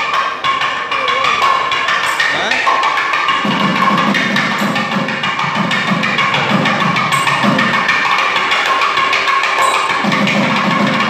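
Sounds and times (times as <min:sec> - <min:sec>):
hand percussion strokes: 0:00.0 - 0:11.0.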